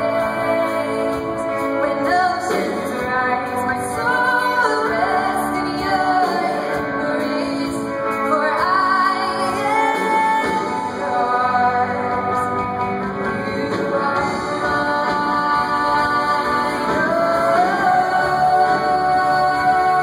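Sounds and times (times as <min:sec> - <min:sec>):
woman singing: 0:00.0 - 0:20.0
worship band playing slow song: 0:00.0 - 0:20.0.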